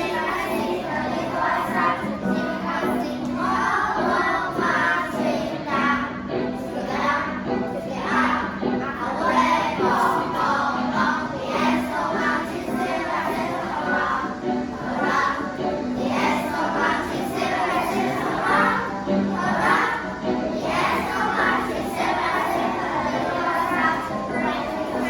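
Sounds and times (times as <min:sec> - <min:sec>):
backing music: 0:00.0 - 0:25.0
children singing together: 0:00.0 - 0:25.0.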